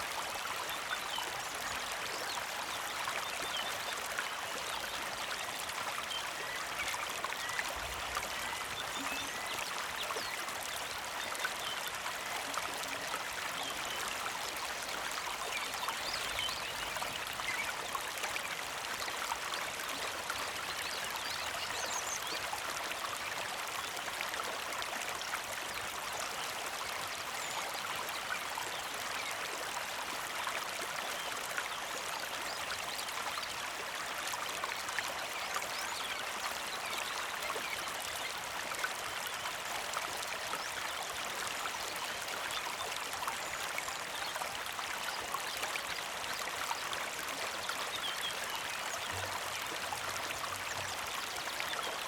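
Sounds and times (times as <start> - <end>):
creek trickling over rocks: 0.0 - 52.0.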